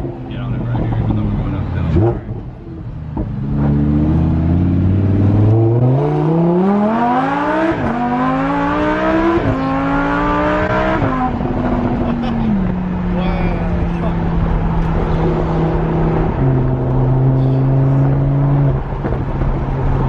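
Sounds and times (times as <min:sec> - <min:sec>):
sports car engine accelerating: 0:00.0 - 0:20.0.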